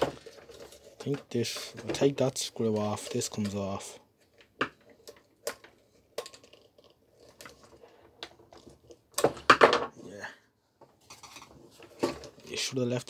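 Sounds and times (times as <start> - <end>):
plastic parts clattering: 0.0 - 10.0, 11.0 - 12.6.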